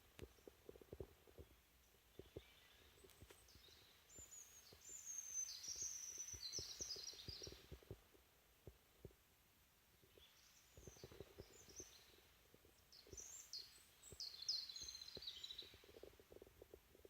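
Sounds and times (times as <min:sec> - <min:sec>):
songbird chirps and trills: 0:00.0 - 0:17.0.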